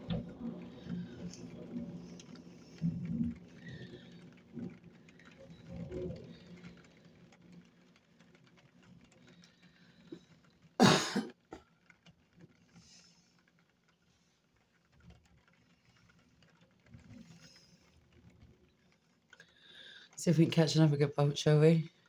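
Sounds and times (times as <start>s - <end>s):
rain pattering on window: 0.0s - 22.0s.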